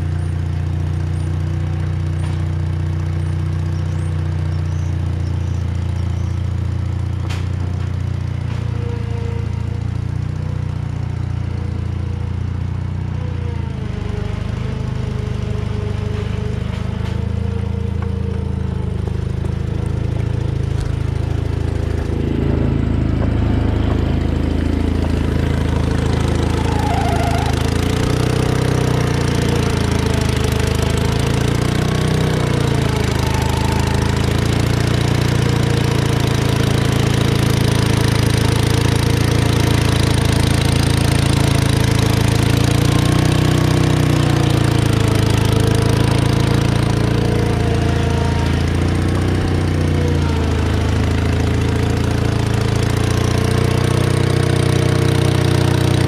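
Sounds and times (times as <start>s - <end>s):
loader engine running: 0.0s - 56.0s.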